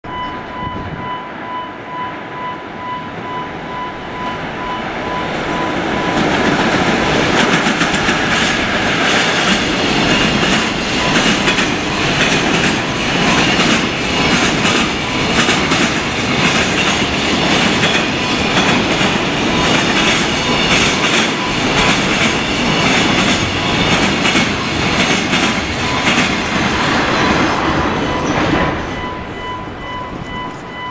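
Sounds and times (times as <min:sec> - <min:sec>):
freight train passing: 0:00.0 - 0:30.9.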